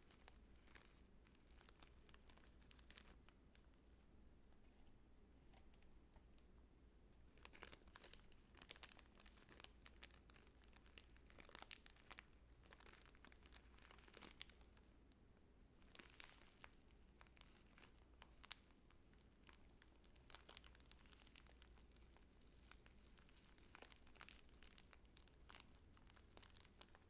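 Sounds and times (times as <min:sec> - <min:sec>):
dry material crinkling: 0:00.0 - 0:03.8, 0:07.2 - 0:14.9, 0:15.8 - 0:27.0.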